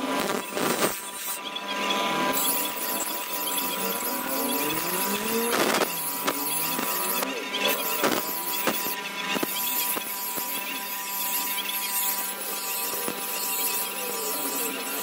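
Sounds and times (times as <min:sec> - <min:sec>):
grinding wheel humming: 0:00.0 - 0:15.0
knife blade grinding hiss: 0:02.3 - 0:15.0.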